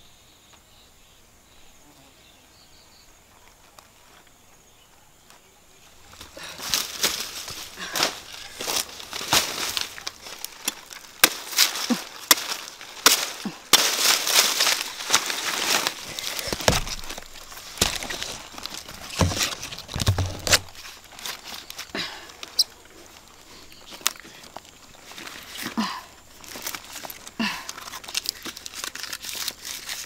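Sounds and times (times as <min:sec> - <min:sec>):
dry leaves crackling and snapping: 0:05.2 - 0:30.0.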